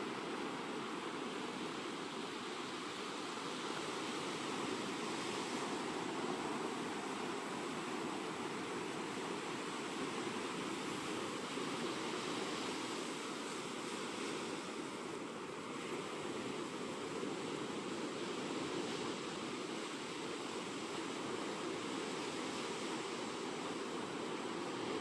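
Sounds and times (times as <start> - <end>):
sea waves washing on beach: 0.0 - 25.0.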